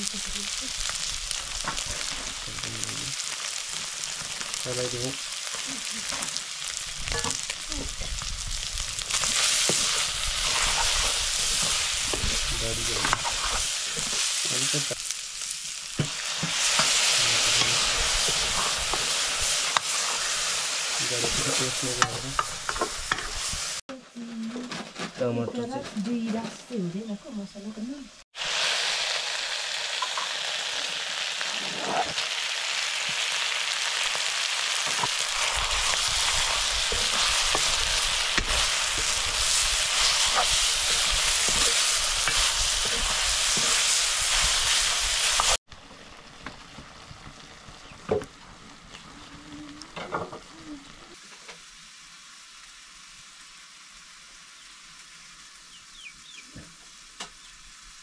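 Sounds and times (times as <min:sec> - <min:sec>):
curry sizzling in a pan: 0:00.0 - 0:58.0.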